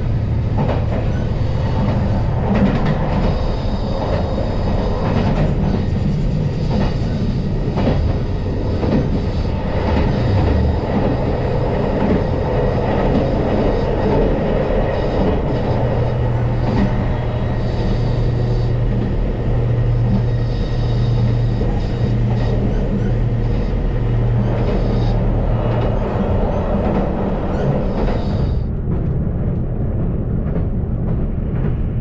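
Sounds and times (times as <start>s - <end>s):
train engine drone: 0.0s - 32.0s.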